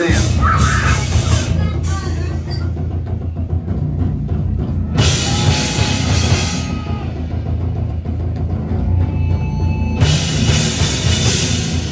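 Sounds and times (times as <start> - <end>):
heavy bass drum: 0.0 - 11.9
heavy metal band playing: 0.0 - 11.9.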